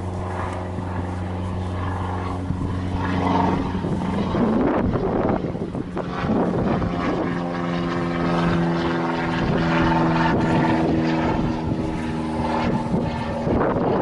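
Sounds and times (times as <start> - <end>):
propeller aircraft engine droning: 0.0 - 14.0
wind gusting on microphone: 0.0 - 14.0.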